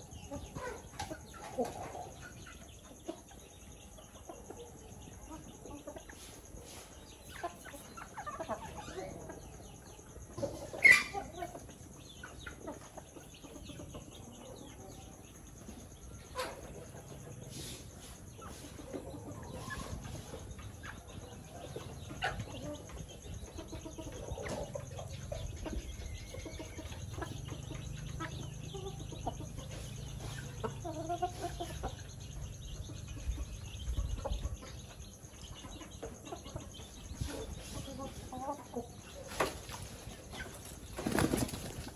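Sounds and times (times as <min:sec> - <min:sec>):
chickens clucking softly: 0:00.0 - 0:41.9.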